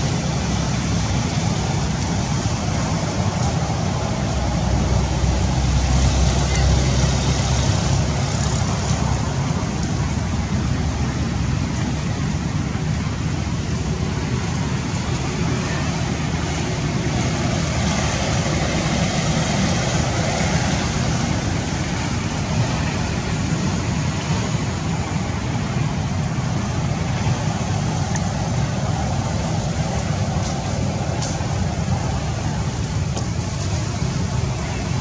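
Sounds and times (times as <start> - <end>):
heavy low rumble: 0.0 - 35.0.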